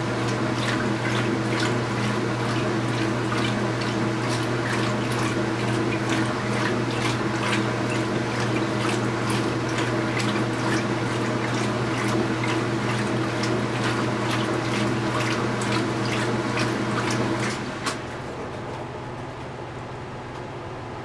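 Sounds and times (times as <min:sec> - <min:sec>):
water sloshing in tub: 0:00.0 - 0:19.4
washing machine motor hum: 0:00.0 - 0:21.0.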